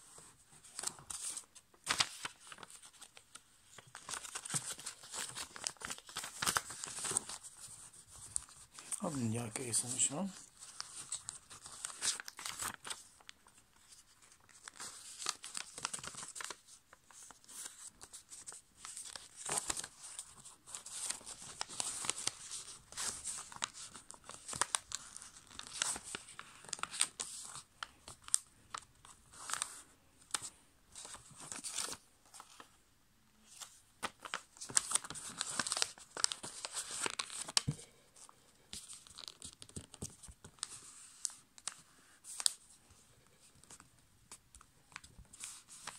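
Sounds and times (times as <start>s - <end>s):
paper folding and crinkling: 0.0s - 32.8s, 33.4s - 45.9s.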